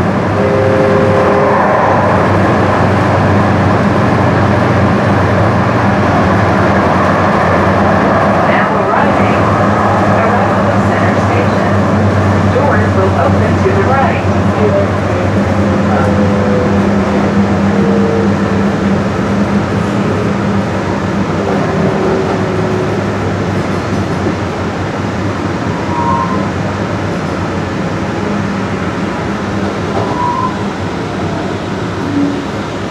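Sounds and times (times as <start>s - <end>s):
light rail train rumble: 0.0s - 32.9s.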